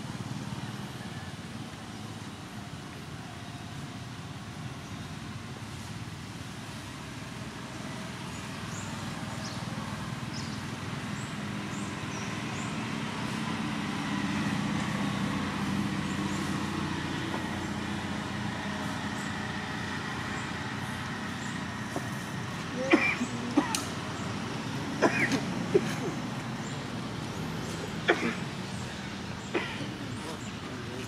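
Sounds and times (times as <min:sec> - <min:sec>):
vehicle engine passing by: 0:04.9 - 0:31.0.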